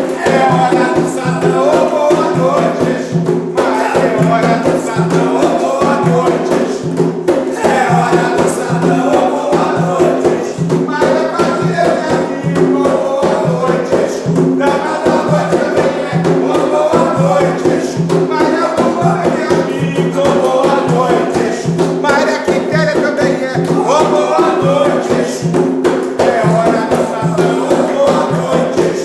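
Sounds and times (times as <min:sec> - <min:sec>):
hand drum beat: 0:00.0 - 0:29.0
voices singing a chant: 0:00.0 - 0:29.0.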